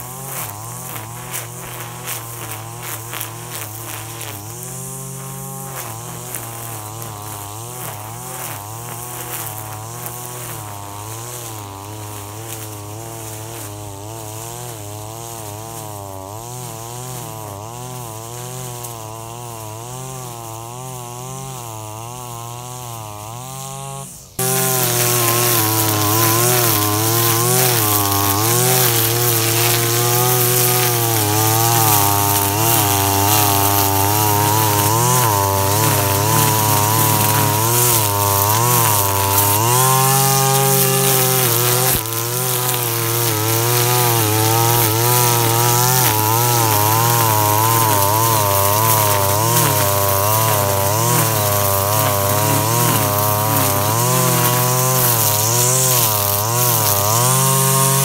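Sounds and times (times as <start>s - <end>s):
brush cutter cutting grass: 0.0s - 58.0s.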